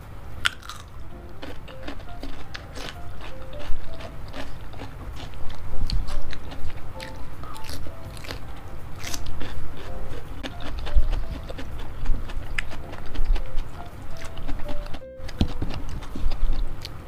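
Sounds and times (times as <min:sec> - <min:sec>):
chewing and biting food: 0:00.4 - 0:17.0
sharp crunching clicks: 0:00.4 - 0:17.0.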